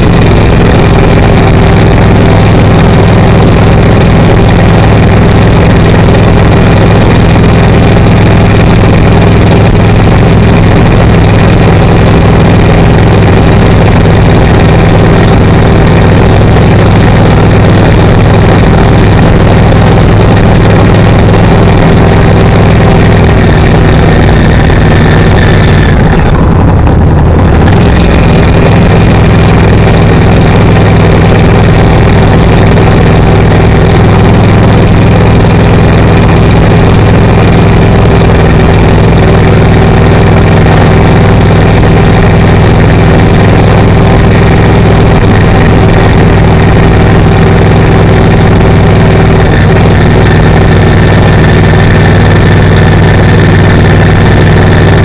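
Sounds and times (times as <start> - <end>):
car engine hum and road noise: 0.0 - 55.0.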